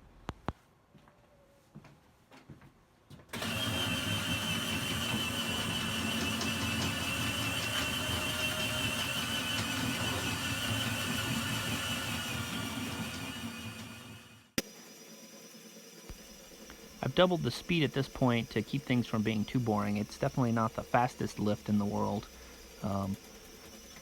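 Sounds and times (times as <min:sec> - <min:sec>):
drill motors whining: 0:03.3 - 0:24.0.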